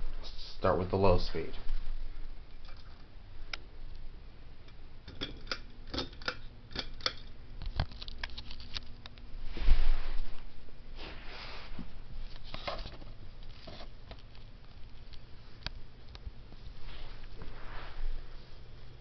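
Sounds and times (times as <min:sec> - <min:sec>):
fan motor hum: 0:00.0 - 0:19.0.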